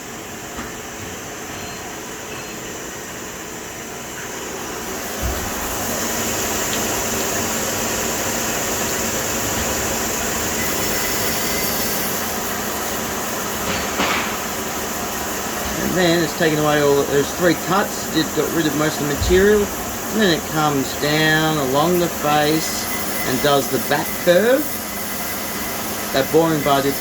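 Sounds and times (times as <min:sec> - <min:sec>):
lathe running: 0:03.2 - 0:27.0.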